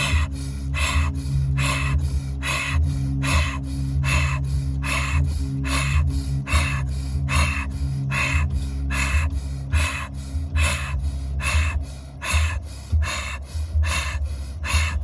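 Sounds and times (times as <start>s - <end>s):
low steady hum: 0.0s - 15.0s
rapid forceful breathing: 0.0s - 15.0s.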